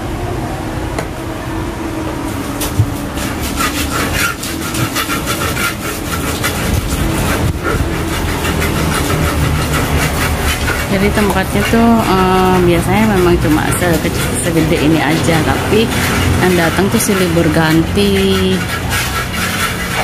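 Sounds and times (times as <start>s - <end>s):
pestle grinding in mortar: 2.3s - 20.0s.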